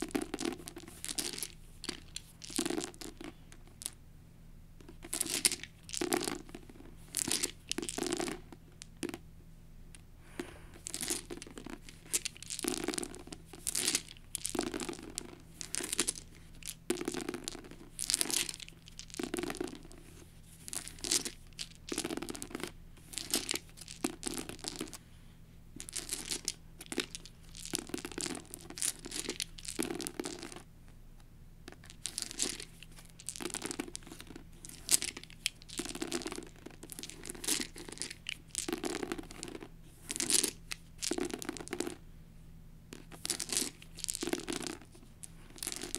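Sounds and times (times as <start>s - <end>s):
plastic dice rattling and clattering: 0.0s - 4.0s, 4.9s - 9.2s, 10.8s - 20.0s, 20.7s - 25.0s, 25.8s - 30.6s, 31.7s - 42.0s, 43.0s - 45.9s.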